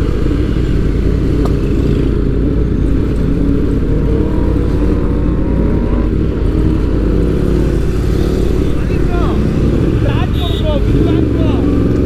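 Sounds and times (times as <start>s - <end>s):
motorbike engines revving: 0.0s - 12.0s.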